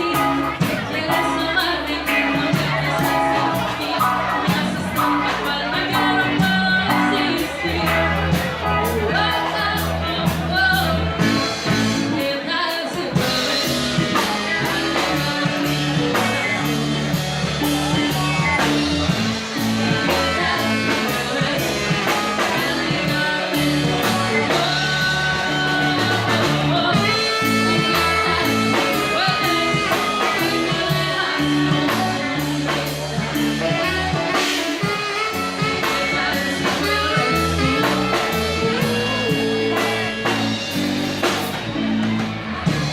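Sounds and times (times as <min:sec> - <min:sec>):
bass line: 0:00.0 - 0:42.9
drums: 0:00.0 - 0:42.9
electric guitar: 0:00.0 - 0:42.9
person singing: 0:00.0 - 0:42.9.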